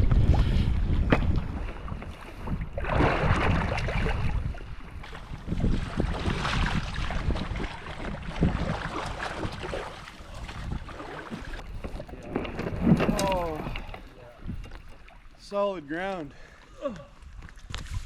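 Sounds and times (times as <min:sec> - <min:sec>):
wind buffeting microphone: 0:00.0 - 0:15.2
water sloshing against hull: 0:00.0 - 0:18.0
paddle strokes splashing: 0:00.2 - 0:15.6.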